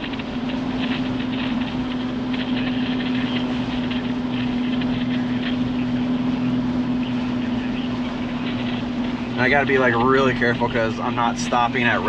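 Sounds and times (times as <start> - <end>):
engine and drivetrain drone: 0.0 - 12.0.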